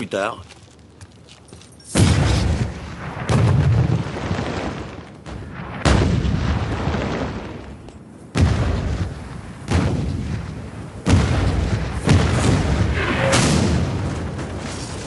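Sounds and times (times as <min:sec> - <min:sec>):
artillery shell blasts: 0:01.9 - 0:15.0.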